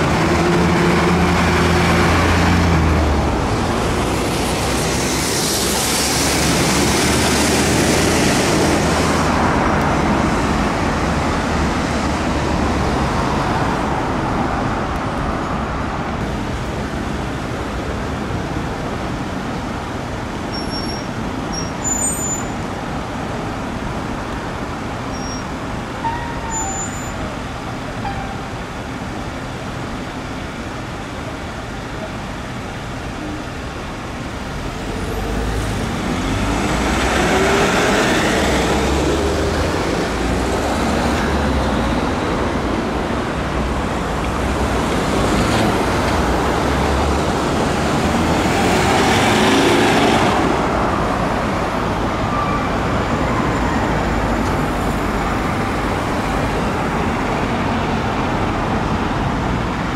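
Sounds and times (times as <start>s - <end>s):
traffic engines and tyre noise: 0.0s - 59.9s.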